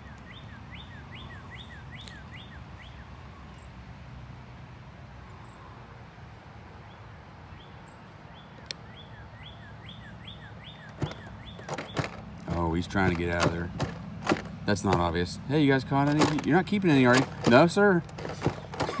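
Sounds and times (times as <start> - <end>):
bird chirping: 0.0 - 3.7, 6.8 - 19.0.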